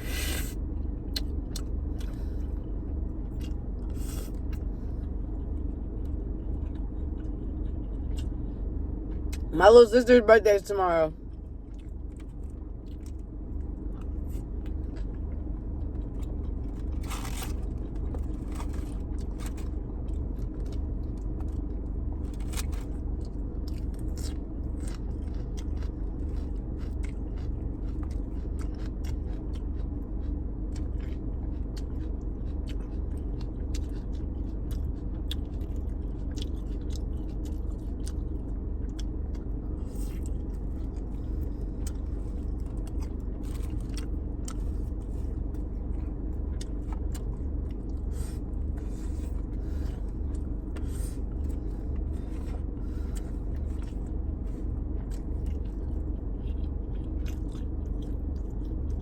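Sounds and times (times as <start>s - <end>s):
chewing and biting food: 0.0s - 59.0s
steady low rumble: 0.0s - 59.0s.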